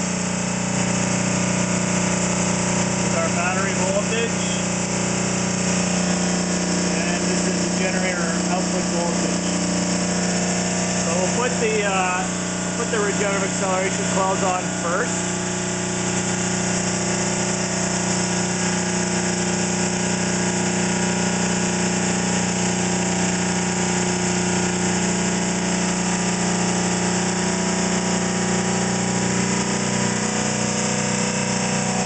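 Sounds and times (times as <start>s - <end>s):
generator test rig humming: 0.0s - 32.0s.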